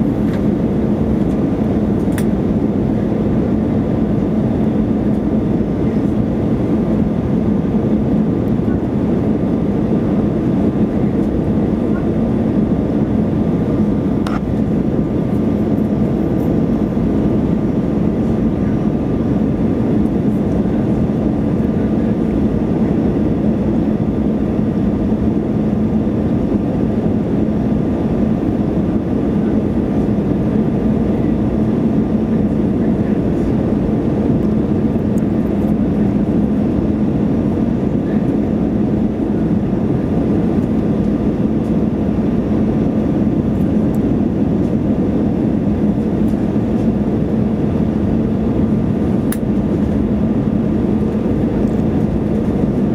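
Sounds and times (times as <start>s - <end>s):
jet engines and airflow rushing: 0.0s - 52.9s.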